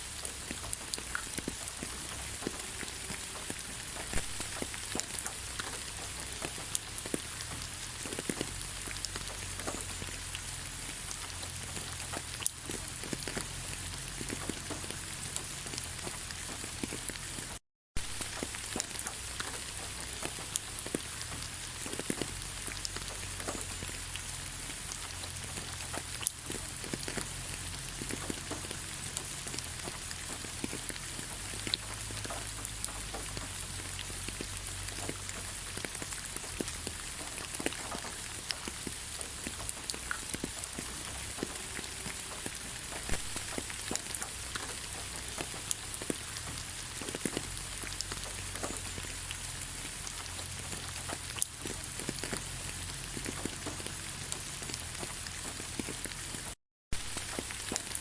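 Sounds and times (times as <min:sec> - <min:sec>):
rain falling in forest: 0:00.0 - 0:58.0.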